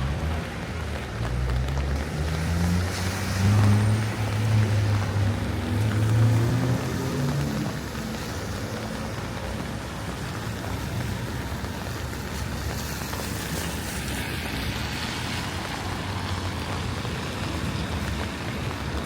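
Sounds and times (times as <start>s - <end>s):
rain hiss: 0.0s - 19.0s
wet-road traffic rumble: 0.0s - 19.0s.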